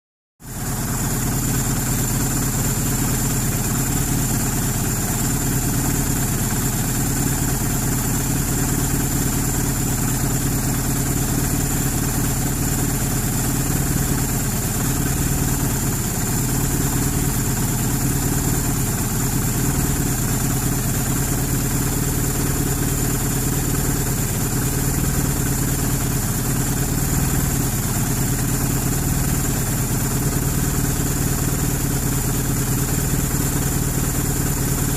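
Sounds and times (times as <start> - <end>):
car engine idling: 0.4 - 34.9
engine ticking: 0.4 - 34.9.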